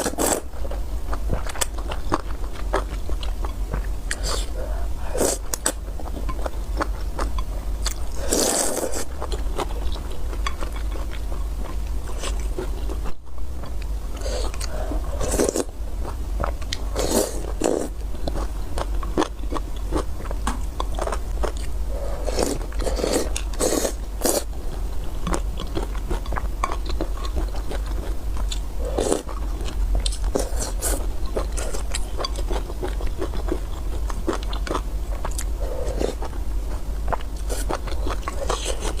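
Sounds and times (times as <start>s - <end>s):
wet chewing of noodles: 0.0s - 39.0s.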